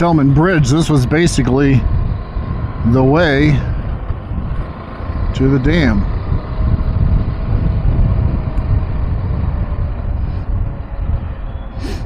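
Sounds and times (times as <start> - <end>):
motorcycle engine running: 0.0 - 11.8
wind noise on microphone: 0.0 - 12.0.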